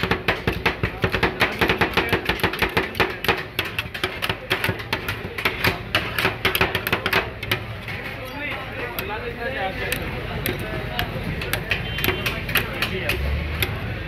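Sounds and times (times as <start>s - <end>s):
metal spatulas clacking on steel plate: 0.0s - 14.0s.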